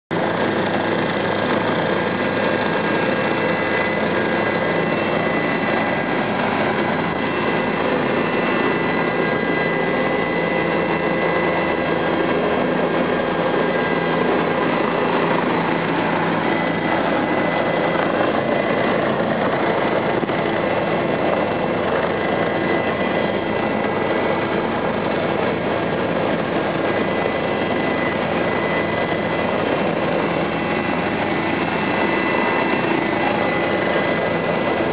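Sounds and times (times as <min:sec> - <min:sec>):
helicopter engine and rotors: 0:00.1 - 0:34.9.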